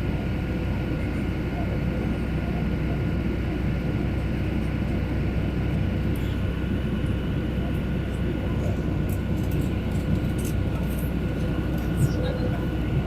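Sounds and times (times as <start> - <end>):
airliner engines droning: 0.0 - 13.0.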